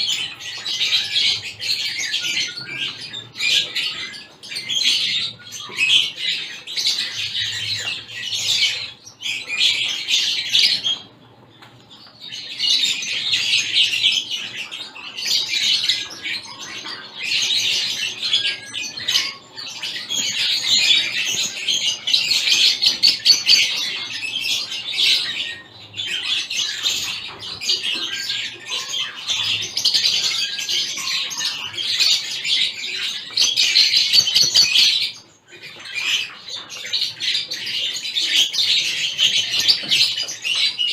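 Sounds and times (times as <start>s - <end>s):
finches chirping and chattering: 0.0s - 40.9s.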